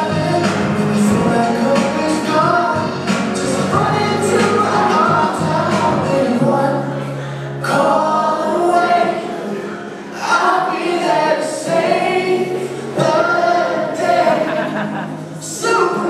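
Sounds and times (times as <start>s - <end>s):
choir singing: 0.0s - 16.0s
held accompaniment: 0.0s - 16.0s.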